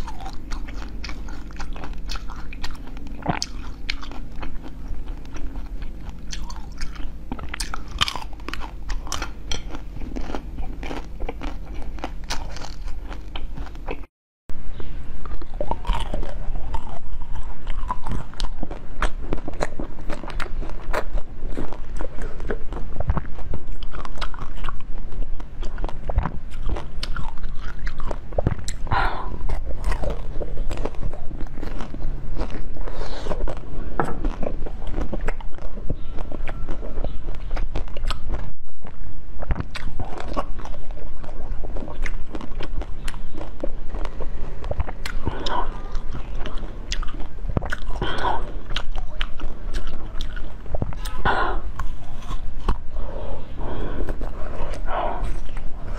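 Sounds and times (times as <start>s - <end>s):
crunching frozen food: 0.0s - 14.0s, 15.3s - 55.9s.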